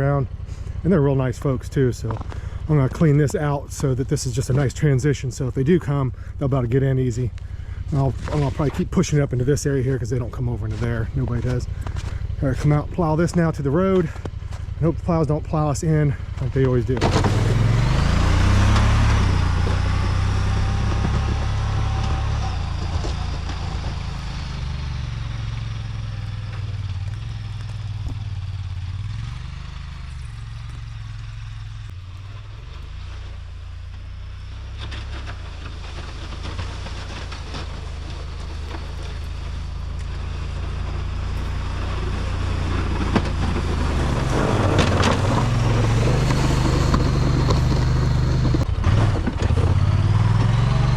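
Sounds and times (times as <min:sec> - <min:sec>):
snowplow engine running: 0:00.0 - 0:50.9.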